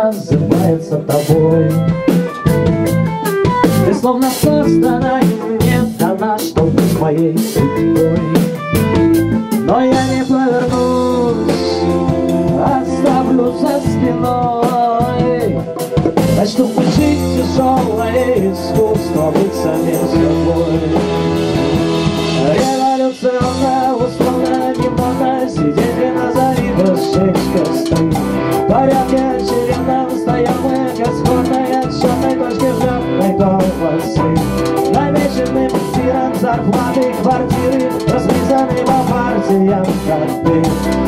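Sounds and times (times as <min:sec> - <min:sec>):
digital piano: 0:00.0 - 0:41.0
drum kit: 0:00.0 - 0:41.0.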